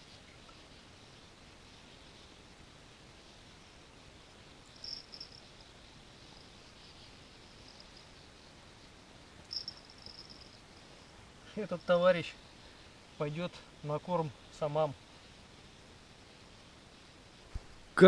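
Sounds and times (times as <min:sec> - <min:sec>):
insect chirring: 0:00.0 - 0:18.0.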